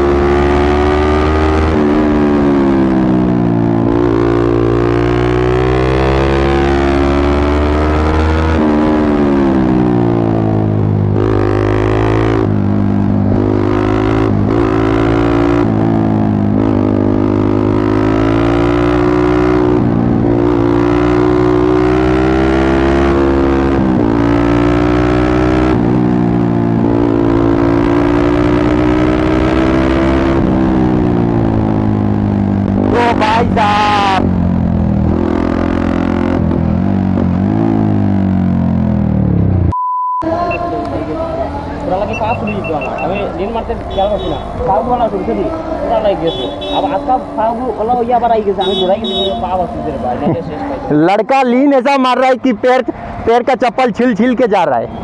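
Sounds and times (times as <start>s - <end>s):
motorcycle engine revving: 0.0s - 39.7s, 40.3s - 53.4s.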